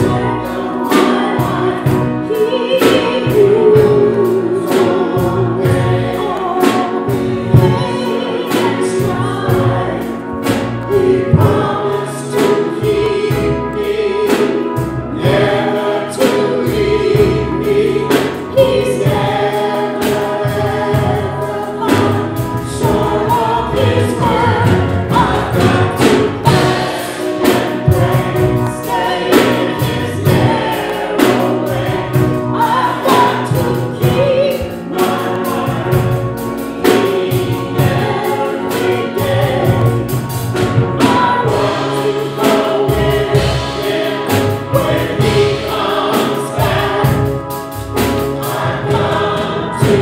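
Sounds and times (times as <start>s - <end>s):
choir singing gospel: 0.0s - 50.0s
instrumental accompaniment with beat: 0.0s - 50.0s.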